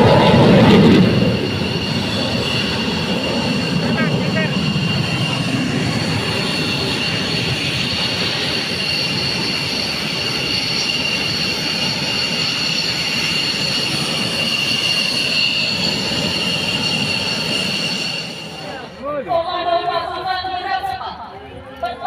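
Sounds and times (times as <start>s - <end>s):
high steady whining tones: 0.0s - 21.3s
jet engines running: 0.0s - 22.0s.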